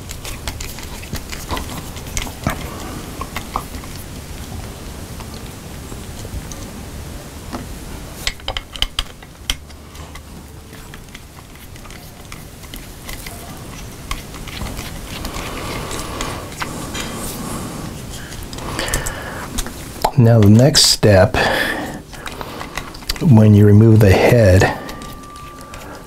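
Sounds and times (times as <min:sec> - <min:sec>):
handling and rubbing noise: 0:00.0 - 0:06.8, 0:07.4 - 0:26.0.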